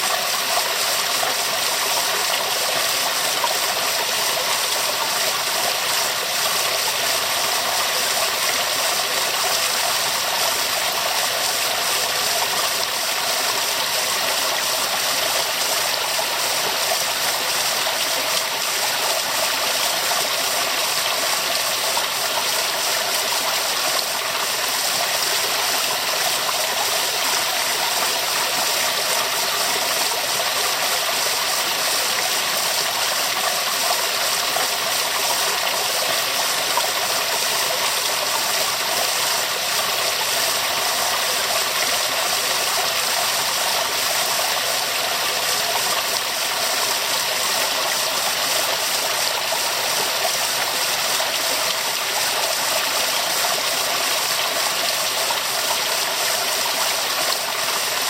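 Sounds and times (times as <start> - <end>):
waterfall pouring and splashing: 0.0 - 58.0.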